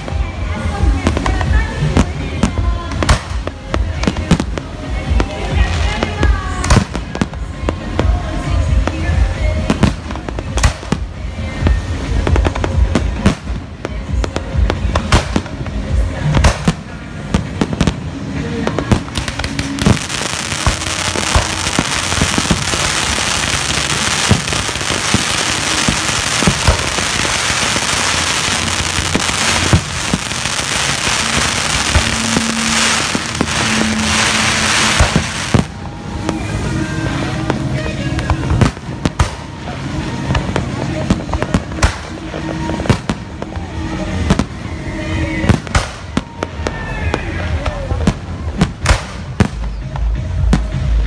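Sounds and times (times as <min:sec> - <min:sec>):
firework fountain hissing: 0:00.0 - 0:51.0.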